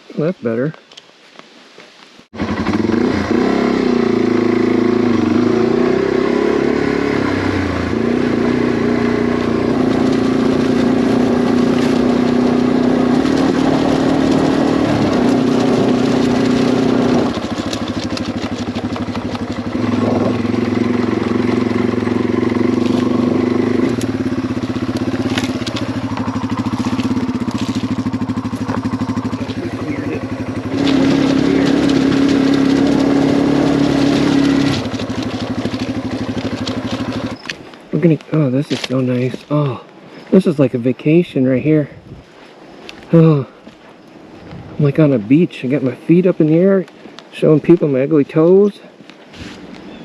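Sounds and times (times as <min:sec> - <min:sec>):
motorcycle engine riding: 0:02.3 - 0:50.0.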